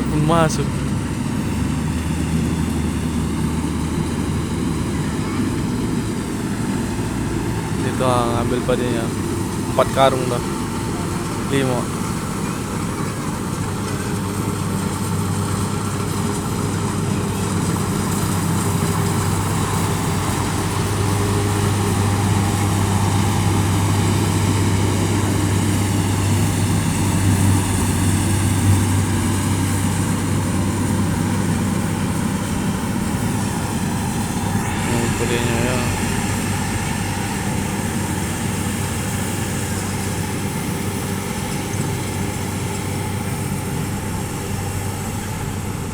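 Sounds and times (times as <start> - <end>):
harvester engine droning: 0.0 - 45.9.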